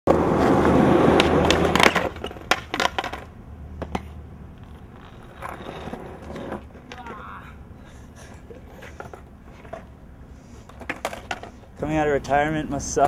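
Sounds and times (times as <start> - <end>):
skateboard clacking on ground: 0.1 - 7.4, 8.4 - 10.0, 10.6 - 12.3
skateboard wheels rolling on concrete: 0.1 - 13.0.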